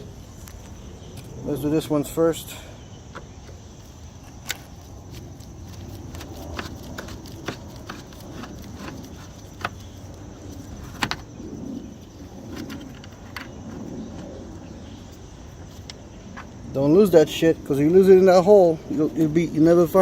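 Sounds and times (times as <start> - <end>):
faint insect chirring: 0.0 - 20.0.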